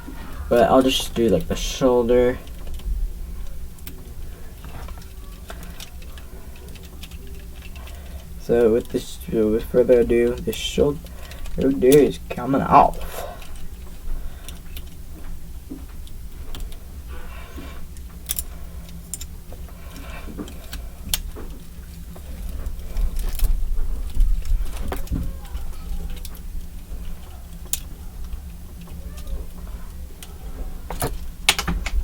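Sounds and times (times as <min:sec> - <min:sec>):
plastic parts clicking and snapping: 0:00.0 - 0:32.0
steady low hum: 0:00.0 - 0:32.0.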